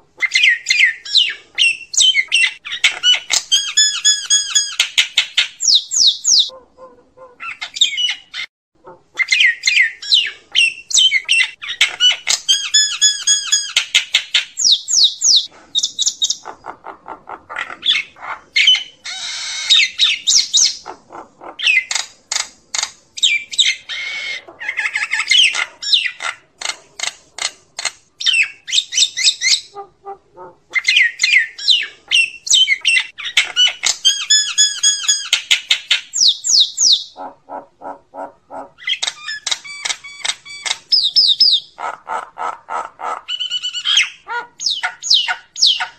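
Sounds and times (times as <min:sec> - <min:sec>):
myna bird calling: 0:00.0 - 0:45.9.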